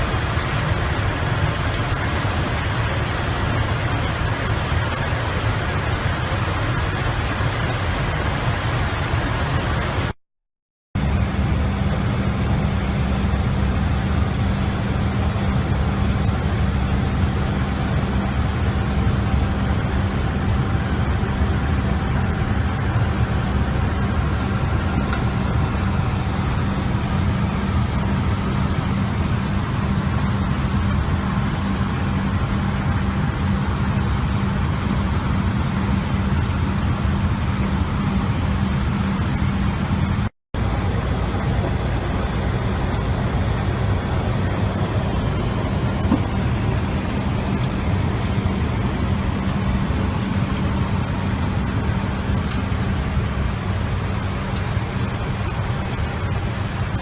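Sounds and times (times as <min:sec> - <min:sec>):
steady low hum: 0:11.0 - 0:57.0.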